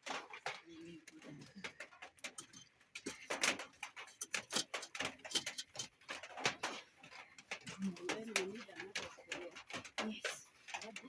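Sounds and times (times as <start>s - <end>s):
hard objects clicking and knocking: 0.0s - 11.0s.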